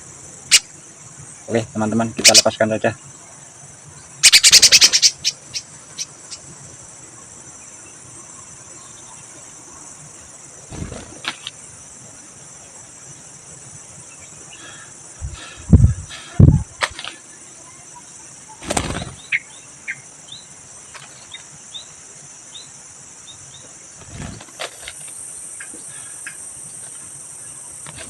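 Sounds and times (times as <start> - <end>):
cricket chorus: 0.0 - 28.0.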